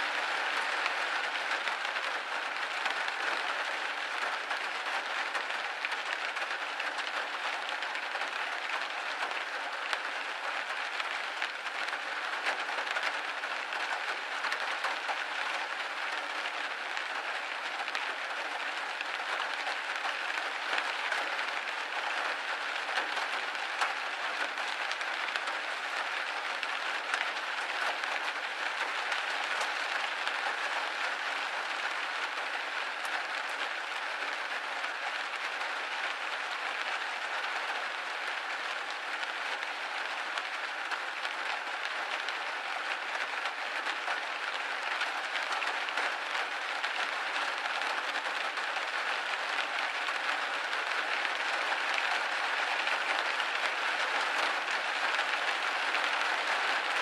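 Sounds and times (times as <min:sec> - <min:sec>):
rain pattering on a window: 0:00.0 - 0:57.0.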